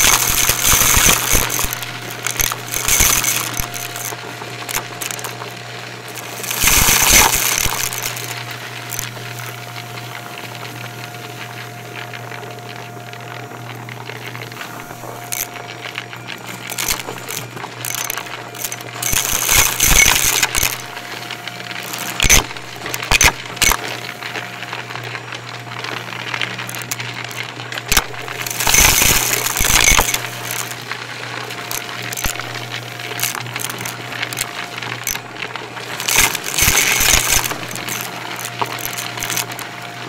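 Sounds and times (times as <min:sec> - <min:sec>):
grit rattling through vacuum hose: 0:00.0 - 0:10.9, 0:13.6 - 0:24.6, 0:26.0 - 0:40.0
vacuum cleaner motor hum: 0:00.0 - 0:40.0.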